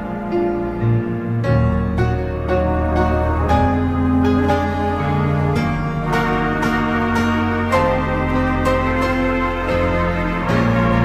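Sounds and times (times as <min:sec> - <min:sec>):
piano chords: 0:00.0 - 0:11.0
sustained organ chords: 0:00.0 - 0:11.0.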